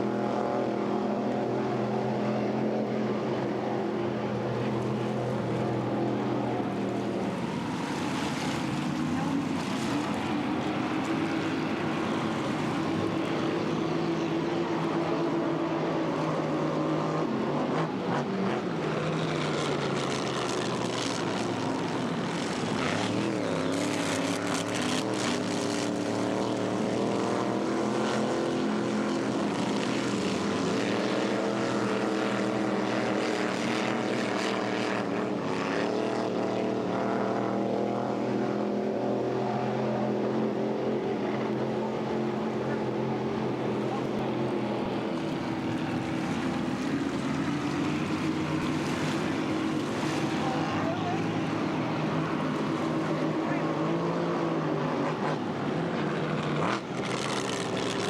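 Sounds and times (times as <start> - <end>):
speedboat engines running hard: 0.0 - 58.0.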